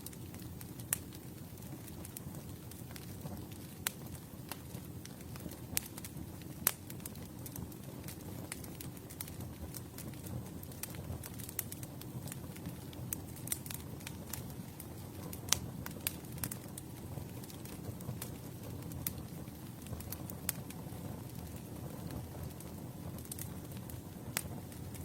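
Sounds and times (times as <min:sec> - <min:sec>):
campfire crackling and popping: 0:00.0 - 0:25.0
low rumble of flames: 0:00.0 - 0:25.0.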